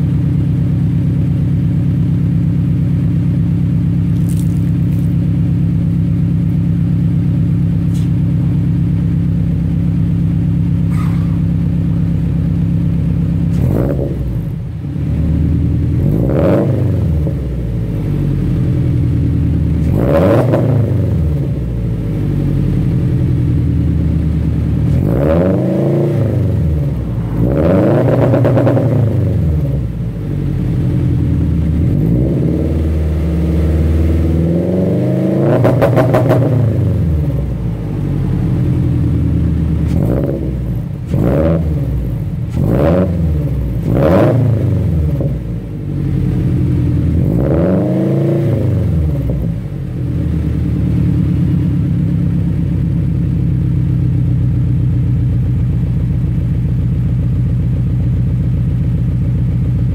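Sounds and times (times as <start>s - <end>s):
car engine idling: 0.0s - 59.9s
car engine revving: 3.7s - 56.4s.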